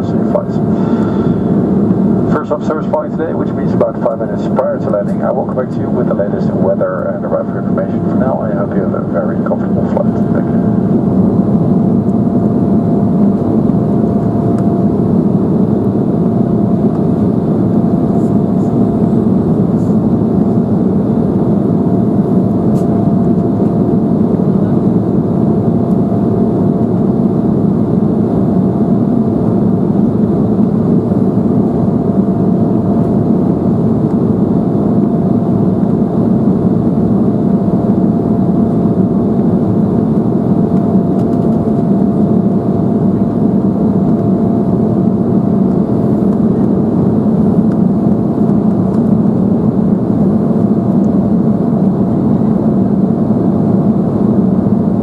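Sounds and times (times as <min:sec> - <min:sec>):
faint steady whine: 0:00.0 - 0:55.0
jet engine and airflow rush: 0:00.0 - 0:55.0.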